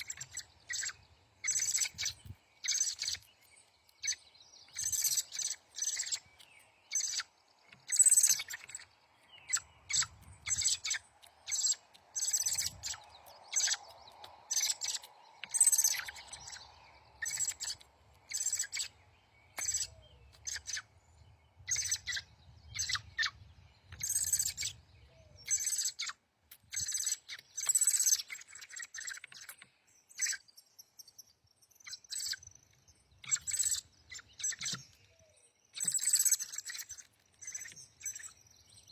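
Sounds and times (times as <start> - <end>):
songbird chip calls: 0.0 - 38.9.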